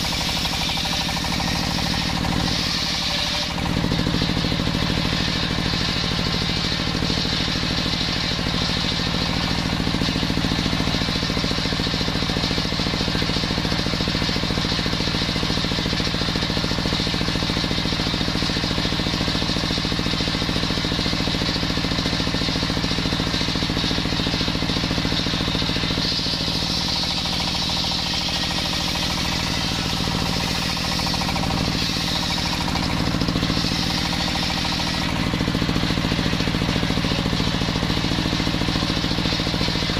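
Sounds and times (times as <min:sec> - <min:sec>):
saw blade cutting wood: 0:00.0 - 0:39.9
table circular saw running: 0:00.0 - 0:39.9.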